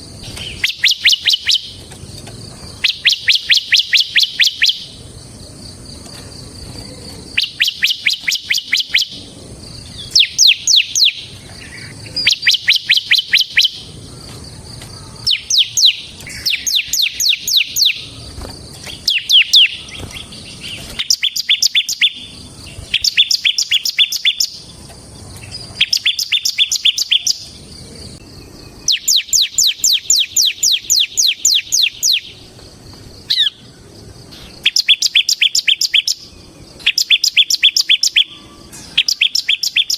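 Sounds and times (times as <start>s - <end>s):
prinia chirping song: 0.0s - 39.9s.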